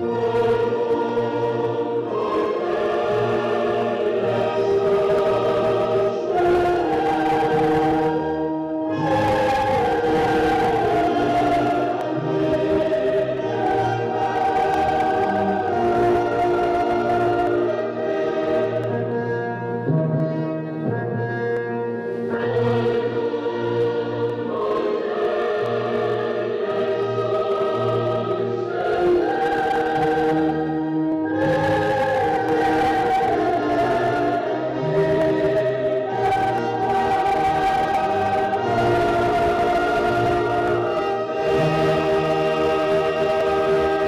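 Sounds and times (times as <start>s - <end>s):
choir singing held chords: 0.0s - 44.0s.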